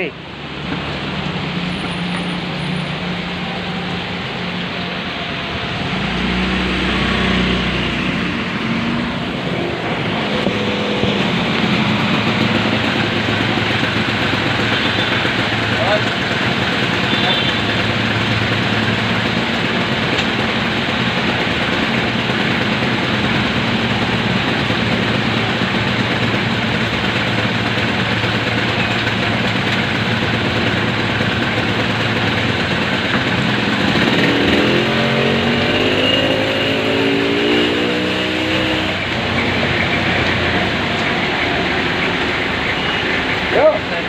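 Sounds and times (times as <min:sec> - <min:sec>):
vehicle engine revving: 0:00.4 - 0:44.0.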